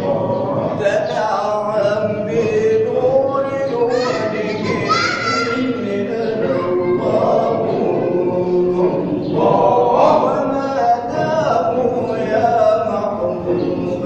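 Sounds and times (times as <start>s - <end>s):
group chanting without instruments: 0.0s - 14.0s.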